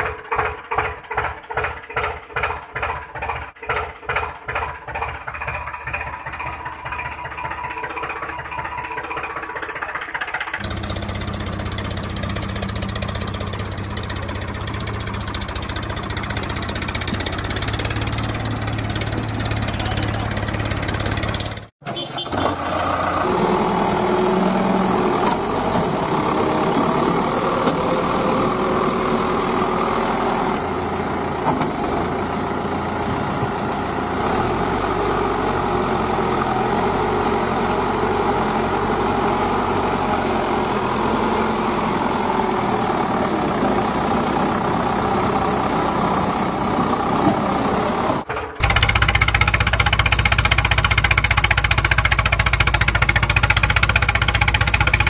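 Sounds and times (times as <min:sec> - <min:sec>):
vehicle engine idling: 0:00.0 - 0:21.7, 0:22.7 - 0:55.0.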